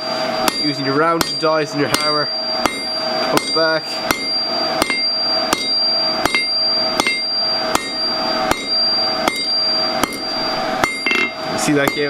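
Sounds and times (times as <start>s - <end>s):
anvil ringing tone: 0.0s - 12.0s
hammer striking steel on anvil: 0.4s - 12.0s.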